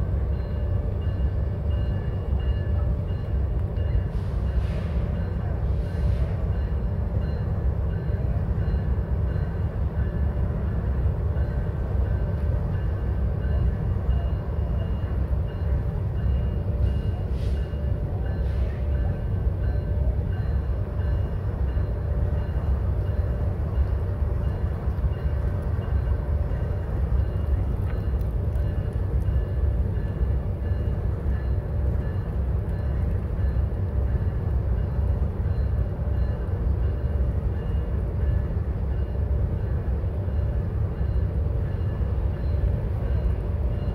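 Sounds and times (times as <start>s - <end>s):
diesel locomotives idling: 0.0s - 43.9s.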